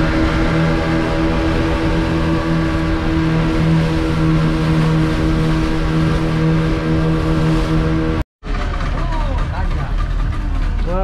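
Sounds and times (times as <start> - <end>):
outboard motors droning: 0.0 - 11.0
water splashing along hull: 0.0 - 11.0.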